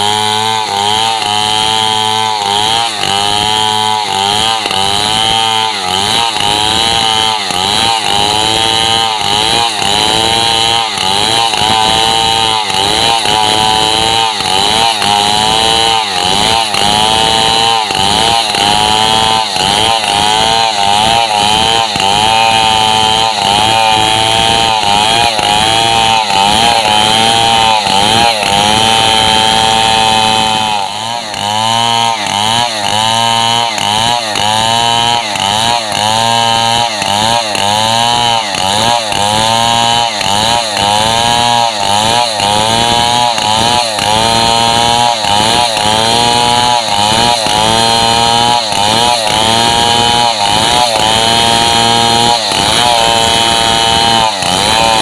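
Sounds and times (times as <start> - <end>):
chainsaw cutting timber: 0.0 - 55.0.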